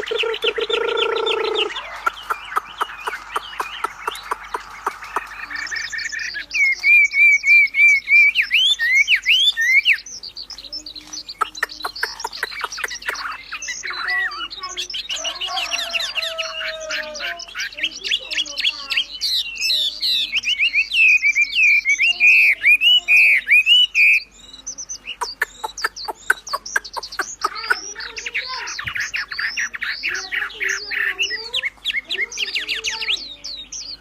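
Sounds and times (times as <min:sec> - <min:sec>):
bird dry chatter: 0:00.0 - 0:34.0
songbird singing: 0:00.0 - 0:34.0.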